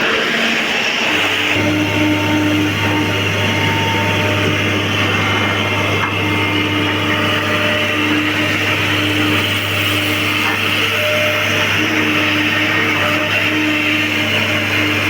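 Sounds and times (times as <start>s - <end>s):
constant engine whine: 0.0s - 15.0s
diesel engine running: 0.0s - 15.0s.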